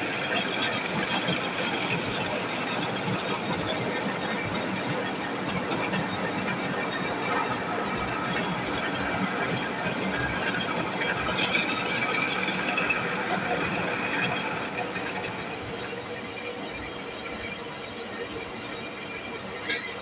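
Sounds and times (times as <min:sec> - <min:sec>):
drill press whirring and grinding: 0:00.0 - 0:20.0.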